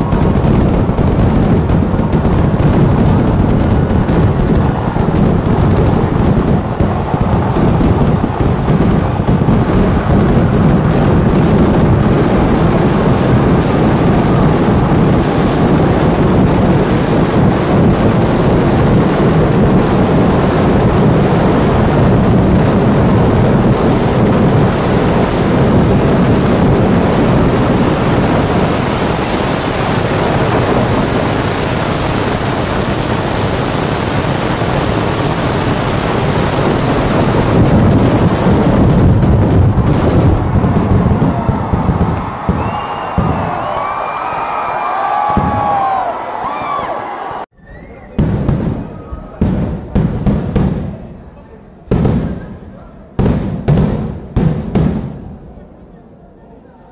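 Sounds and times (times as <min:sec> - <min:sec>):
fireworks barrage bangs and crackles: 0:00.0 - 0:47.0, 0:48.0 - 0:55.9.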